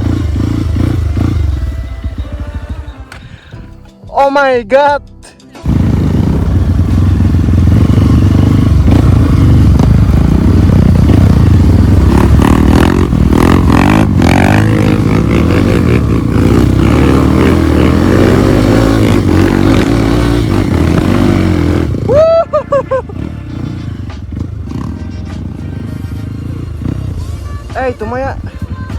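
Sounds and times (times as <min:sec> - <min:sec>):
motorcycle engine running: 0:00.0 - 0:03.8, 0:05.6 - 0:28.9.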